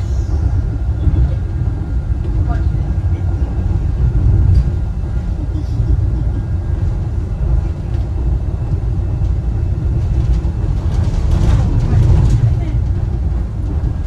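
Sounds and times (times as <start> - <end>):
suspension railway car rumbling: 0.0 - 14.0.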